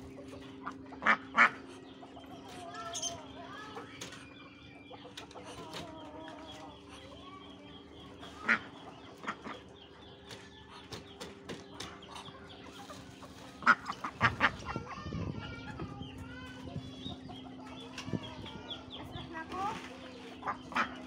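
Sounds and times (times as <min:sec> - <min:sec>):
poultry and cage birds calling: 0:00.0 - 0:21.0
steady low hum: 0:00.0 - 0:21.0.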